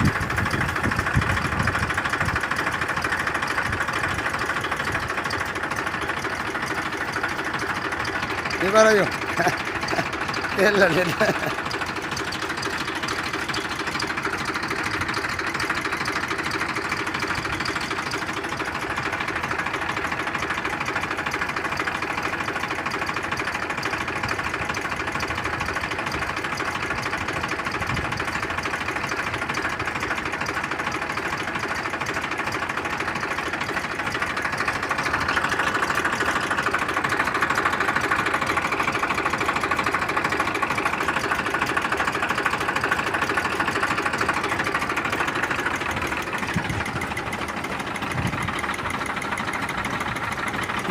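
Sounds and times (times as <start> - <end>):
spray pump rattling: 0.0 - 50.9.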